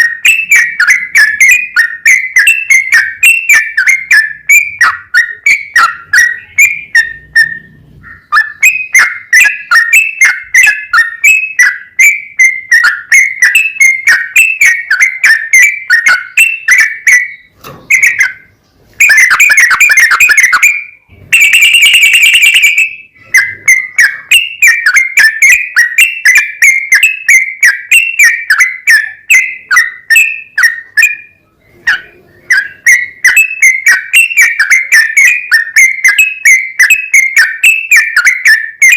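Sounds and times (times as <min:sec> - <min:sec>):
bird singing whistled notes: 0:00.0 - 0:38.9
harsh bird calls: 0:00.0 - 0:38.9.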